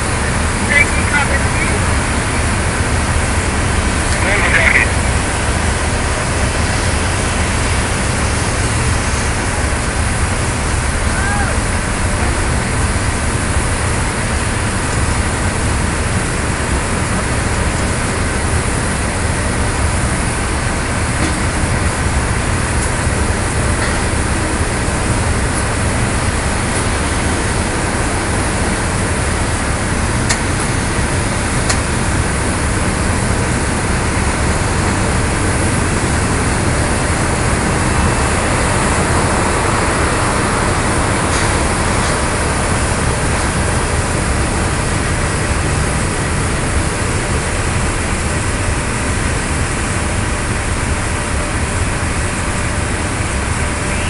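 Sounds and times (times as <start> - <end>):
loud airport machinery noise: 0.0 - 54.0.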